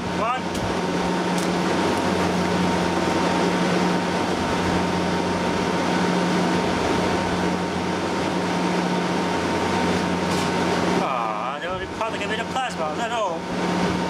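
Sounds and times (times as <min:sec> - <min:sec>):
microwave fan rush: 0:00.0 - 0:14.0
microwave oven hum: 0:00.0 - 0:14.0.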